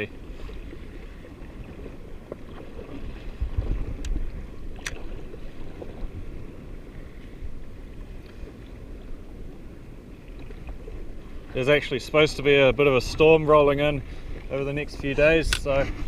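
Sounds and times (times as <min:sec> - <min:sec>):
water lapping against hull: 0:00.0 - 0:16.0.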